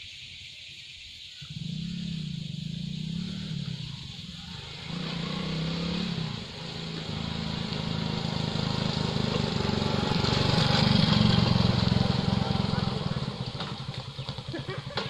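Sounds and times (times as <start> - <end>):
motorcycle engine approaching: 1.4 - 15.0.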